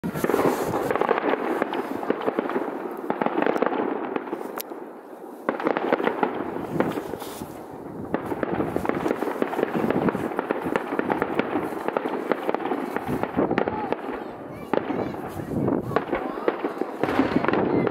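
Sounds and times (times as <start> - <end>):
fireworks crackling and popping: 0.0 - 17.9.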